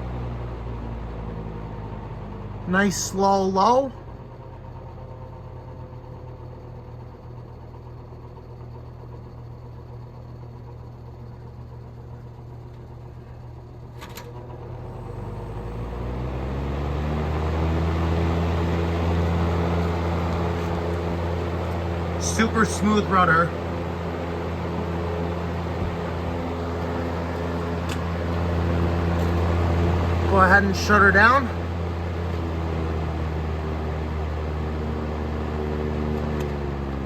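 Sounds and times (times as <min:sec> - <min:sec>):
box fan motor humming: 0:00.0 - 0:37.0.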